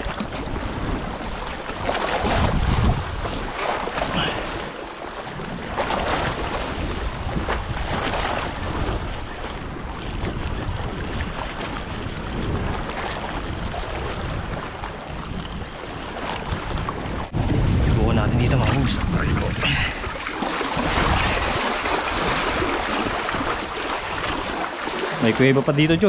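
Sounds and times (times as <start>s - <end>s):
sea waves washing: 0.0s - 26.0s
wind buffeting microphone: 0.0s - 26.0s.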